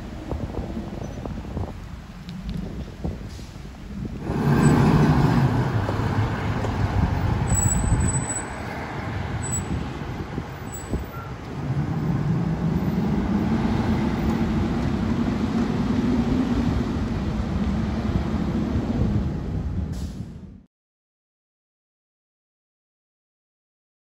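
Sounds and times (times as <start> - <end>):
fire engine diesel engine: 0.0 - 20.7.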